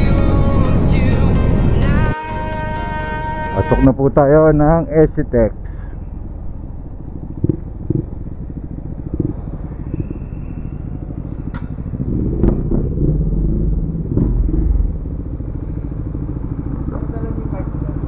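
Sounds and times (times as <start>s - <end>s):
motorcycle engine rumbling: 0.0s - 2.1s, 2.7s - 18.0s.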